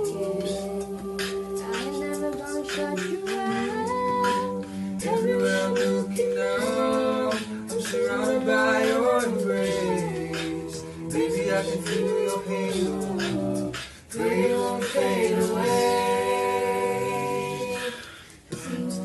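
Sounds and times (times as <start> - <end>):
group singing in harmony: 0.0 - 19.0
percussive beat: 0.0 - 19.0.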